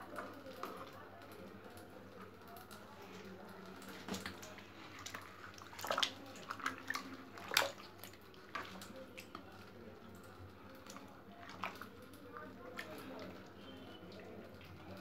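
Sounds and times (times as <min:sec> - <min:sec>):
water splashing and sloshing: 0:02.7 - 0:15.0.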